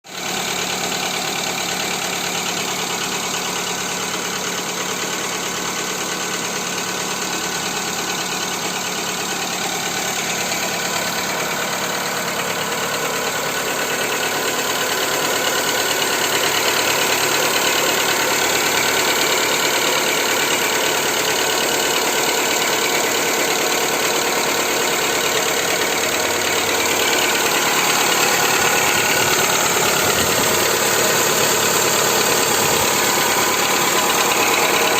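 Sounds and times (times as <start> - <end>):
car engine idling with knock: 0.1 - 34.9.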